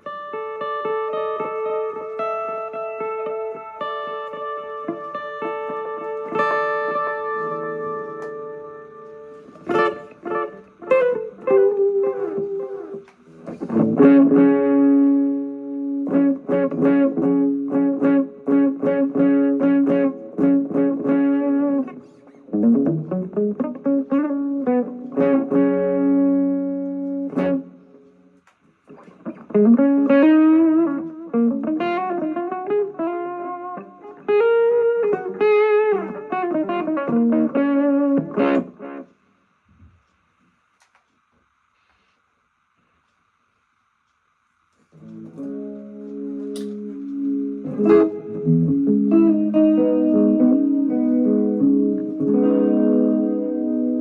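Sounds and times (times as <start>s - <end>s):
electric guitar playing: 0.0s - 39.2s, 44.9s - 54.0s.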